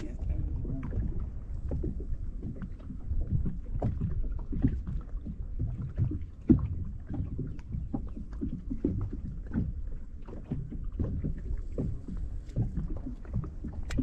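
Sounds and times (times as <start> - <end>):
low wind rumble: 0.0 - 14.0
waves slapping boat hull: 0.0 - 14.0.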